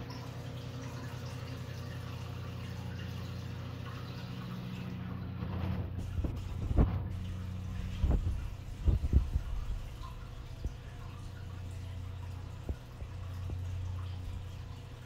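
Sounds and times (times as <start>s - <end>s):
aquarium filter hum: 0.0s - 15.0s
trickling water: 0.0s - 15.0s.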